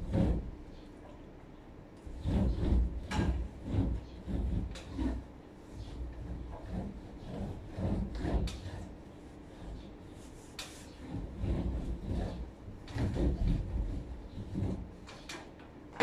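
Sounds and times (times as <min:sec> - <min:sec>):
cloth rubbing wooden panels: 0:00.0 - 0:00.9, 0:02.0 - 0:15.6.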